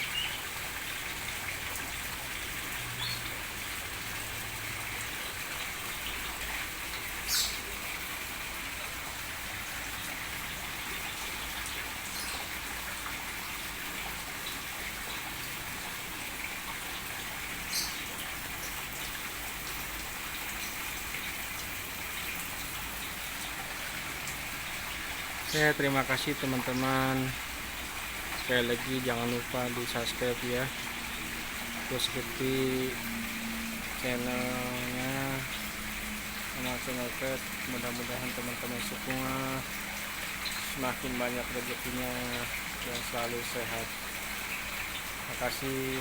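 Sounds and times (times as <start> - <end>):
hiss of running water: 0.0 - 46.0.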